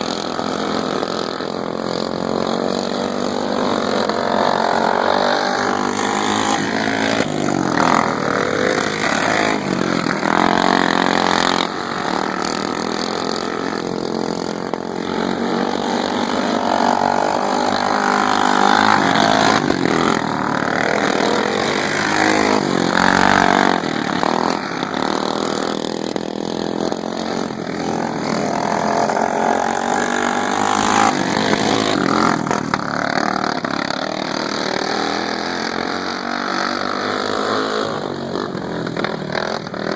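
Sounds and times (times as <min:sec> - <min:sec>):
racing lawn mower engines: 0:00.0 - 0:39.9.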